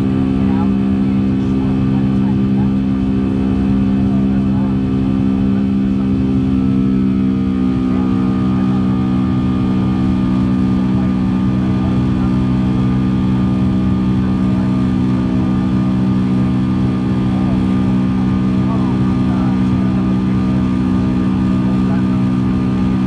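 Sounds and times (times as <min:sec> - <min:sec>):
jet engines droning: 0:00.0 - 0:23.0.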